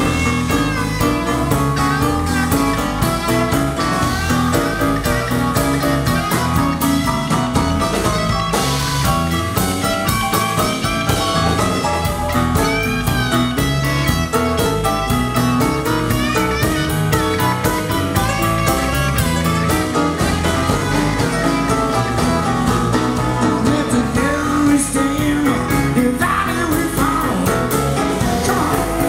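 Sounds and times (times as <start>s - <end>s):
drum kit beat: 0.0s - 29.0s
electric guitar bent notes: 0.0s - 29.0s.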